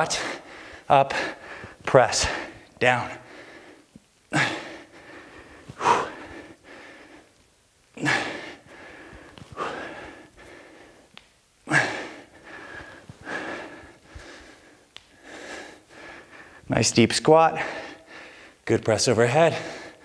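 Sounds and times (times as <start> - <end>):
man breathing hard: 0.0 - 7.4, 8.0 - 16.7, 17.5 - 18.6, 19.5 - 20.0.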